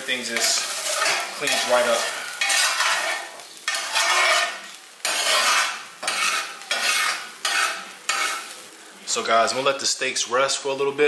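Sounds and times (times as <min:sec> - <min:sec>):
metal spatula scraping skillet: 0:00.0 - 0:09.6.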